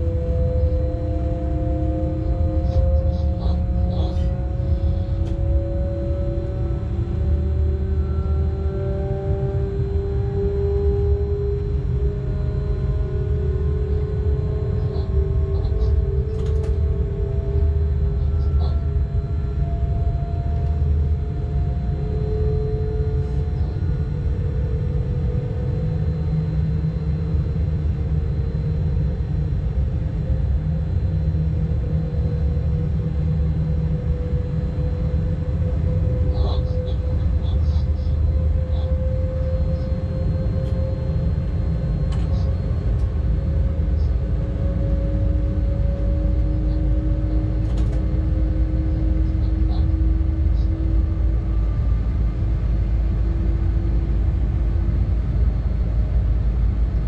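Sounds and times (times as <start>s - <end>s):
locomotive low rumble: 0.0s - 57.0s
traction drive whine: 0.0s - 57.0s.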